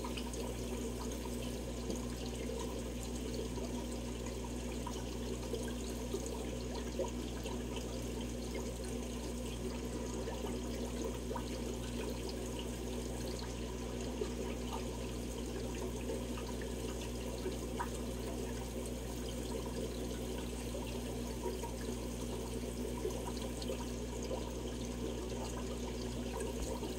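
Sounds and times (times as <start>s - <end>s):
aquarium filter bubbling: 0.0s - 26.9s
low steady hum: 0.0s - 26.9s.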